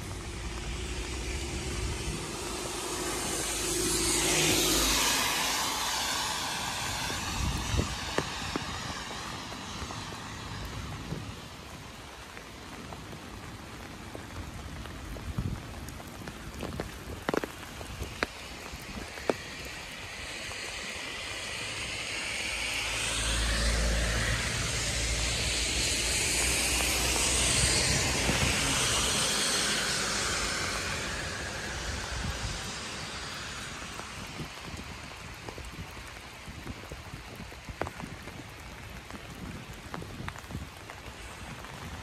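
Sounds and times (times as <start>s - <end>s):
passing vehicle rumble and hiss: 0.0s - 42.0s
steady rain: 0.0s - 42.0s.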